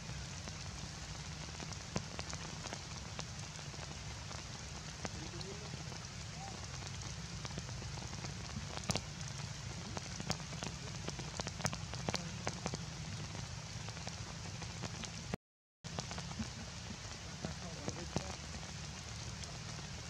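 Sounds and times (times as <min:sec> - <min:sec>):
heavy rain falling: 0:00.0 - 0:20.0
raindrops ticking on hard surface: 0:00.0 - 0:20.0.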